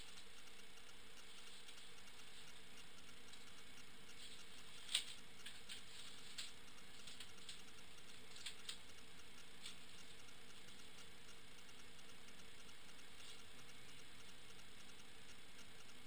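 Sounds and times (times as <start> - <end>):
faint hum: 0.0 - 16.0
steady low hiss: 0.0 - 16.0.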